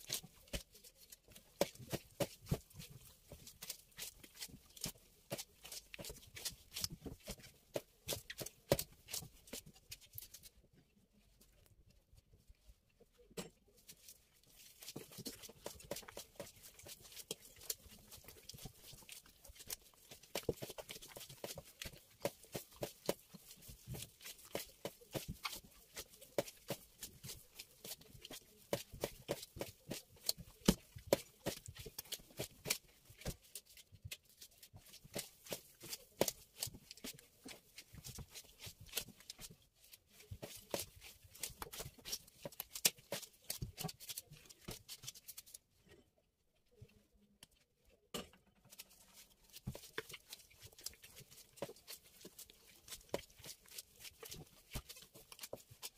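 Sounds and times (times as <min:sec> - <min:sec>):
hands slapping sticky dough: 0:00.0 - 0:10.6, 0:13.3 - 0:45.6, 0:48.1 - 0:55.9.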